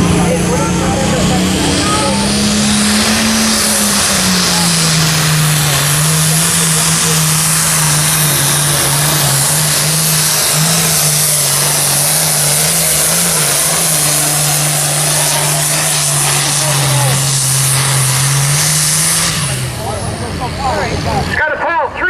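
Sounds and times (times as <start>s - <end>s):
tractor engine running under load: 0.0s - 21.4s.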